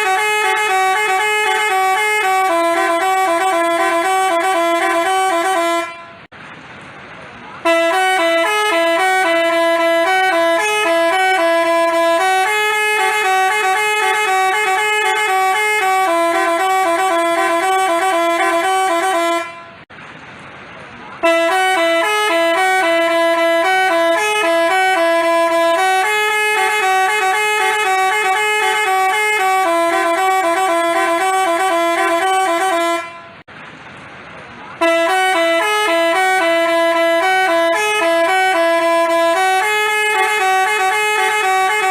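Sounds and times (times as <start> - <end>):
musical bus horn melody: 0.0 - 6.3, 7.6 - 19.9, 21.2 - 33.5, 34.8 - 41.9.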